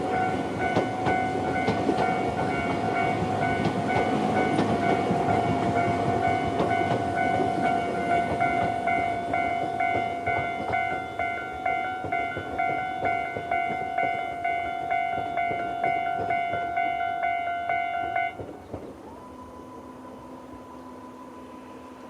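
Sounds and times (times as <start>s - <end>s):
level crossing bell clanging: 0.0s - 18.4s.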